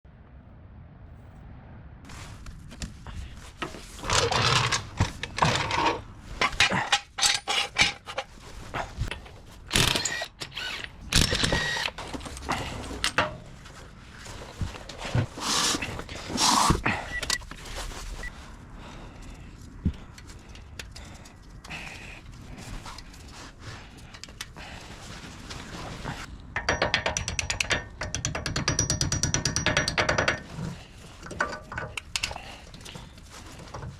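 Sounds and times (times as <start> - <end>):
hand tools and metal parts clattering: 2.8 - 18.4, 19.2 - 33.9.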